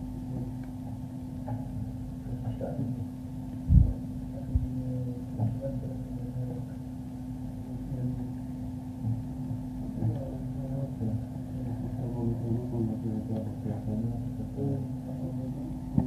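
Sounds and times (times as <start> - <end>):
steady low hum: 0.0 - 16.0
muffled background chatter: 1.5 - 6.9, 7.7 - 16.0.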